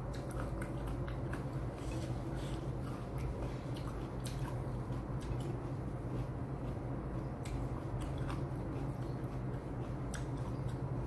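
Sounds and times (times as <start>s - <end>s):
person chewing food: 0.0s - 11.0s
steady low hum: 0.0s - 11.0s.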